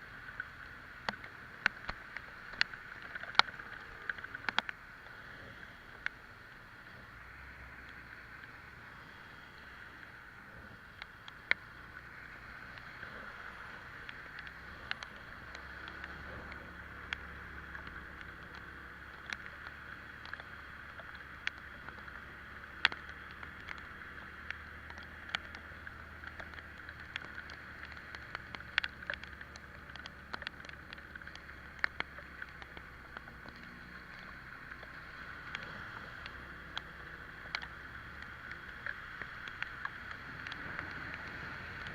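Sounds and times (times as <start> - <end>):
hiss of wet road and wind: 0.0 - 41.9
raindrops ticking on camera: 0.0 - 41.9.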